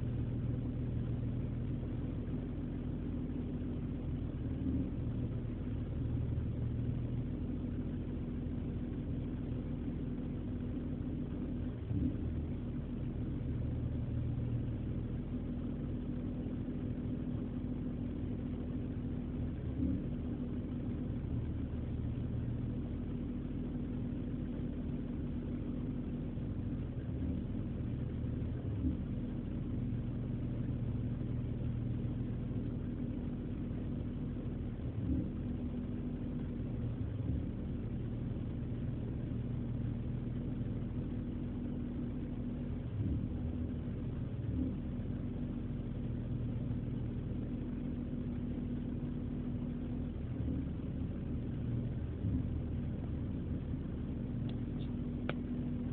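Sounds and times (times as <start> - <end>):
car engine idling with misfire: 0.0 - 55.9.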